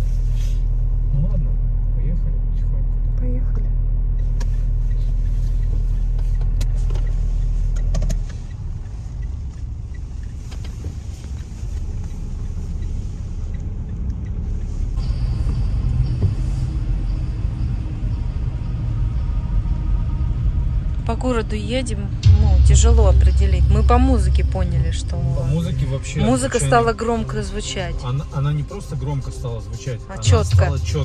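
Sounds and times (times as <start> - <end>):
deep hum: 0.0 - 10.5, 11.4 - 31.0
engine and road rumble: 0.0 - 31.0.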